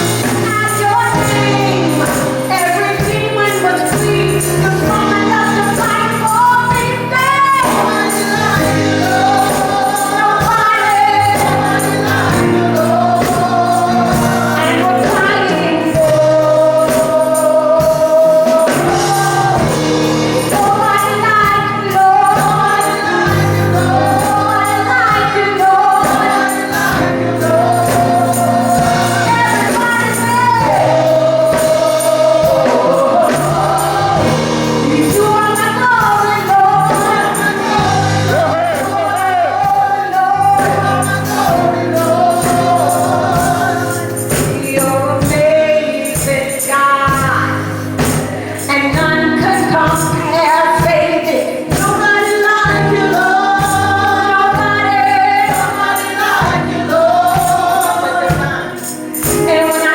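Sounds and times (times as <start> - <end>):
gospel choir singing: 0.0 - 59.9
instrumental accompaniment: 0.0 - 59.9.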